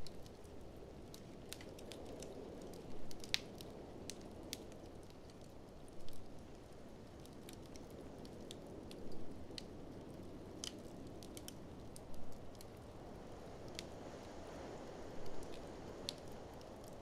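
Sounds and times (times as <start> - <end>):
blizzard wind rumble: 0.0 - 17.0
wood fire crackling: 0.0 - 17.0.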